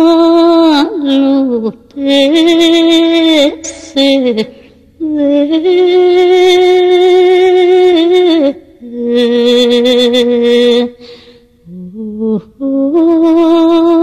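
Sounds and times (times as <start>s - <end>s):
woman singing a lament: 0.0s - 14.0s.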